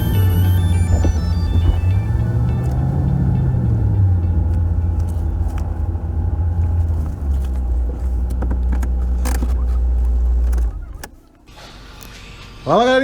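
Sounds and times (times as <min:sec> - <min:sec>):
vehicle engine rumble: 0:00.0 - 0:12.7.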